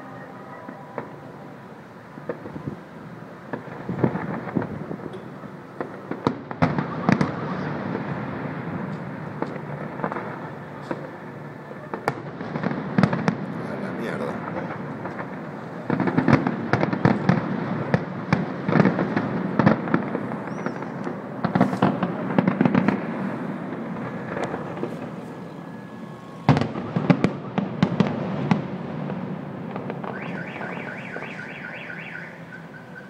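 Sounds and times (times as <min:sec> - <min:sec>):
fireworks bangs and crackle: 0:00.0 - 0:33.0.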